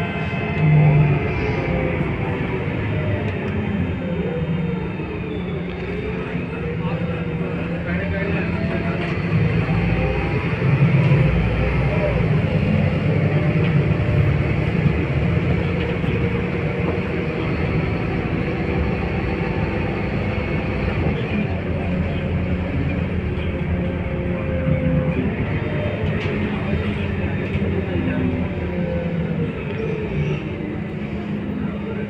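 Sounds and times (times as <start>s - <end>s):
bus diesel engine running: 0.0s - 32.0s
road noise: 0.0s - 32.0s.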